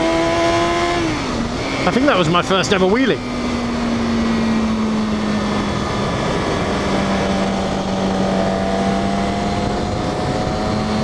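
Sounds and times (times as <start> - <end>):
motorcycle engine cruising: 0.0 - 11.0
wind rush: 0.0 - 11.0.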